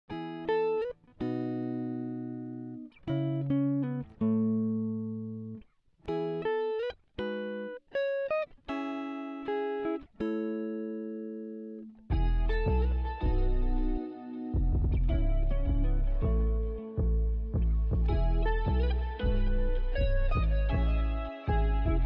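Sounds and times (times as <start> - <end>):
plucked guitar music: 0.1 - 22.0.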